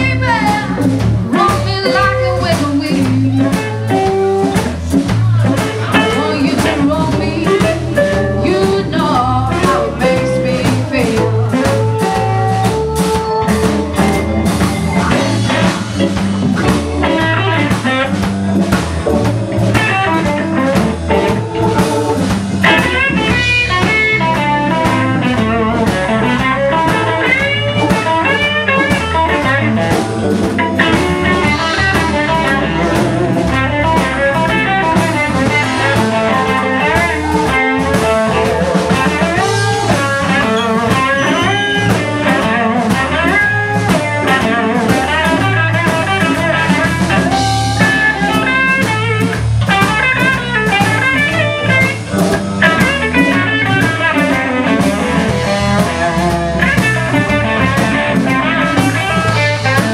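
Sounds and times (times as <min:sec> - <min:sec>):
live blues band playing: 0:00.0 - 0:59.9.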